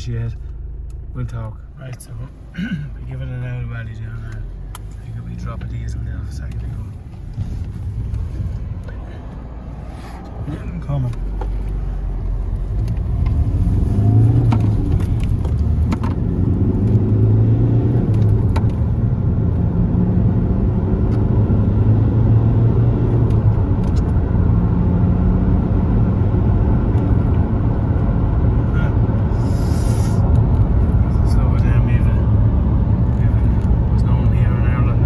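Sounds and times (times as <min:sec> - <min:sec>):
diesel car engine: 0:00.0 - 0:35.0
road noise: 0:00.0 - 0:35.0.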